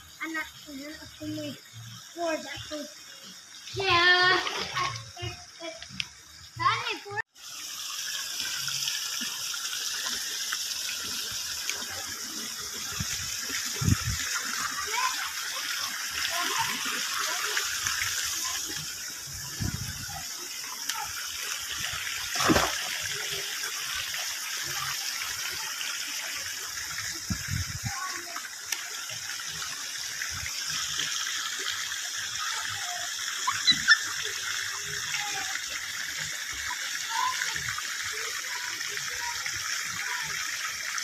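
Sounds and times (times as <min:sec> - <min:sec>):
water splashing in a pool: 0:00.0 - 0:41.0.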